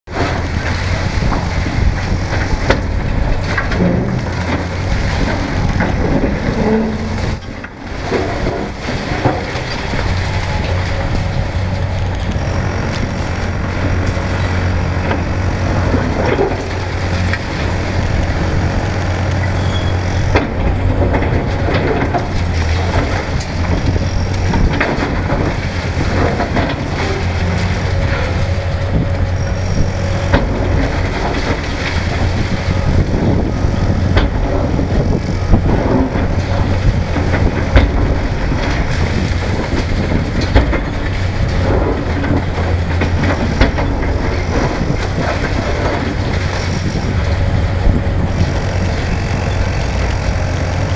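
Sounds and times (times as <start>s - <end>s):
crunching brick and concrete: 0.1s - 50.9s
excavator diesel engine running: 0.1s - 50.9s.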